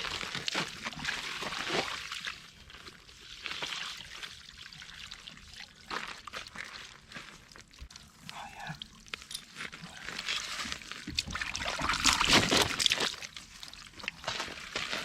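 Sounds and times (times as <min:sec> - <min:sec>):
water splashing and trickling: 0:00.1 - 0:15.0.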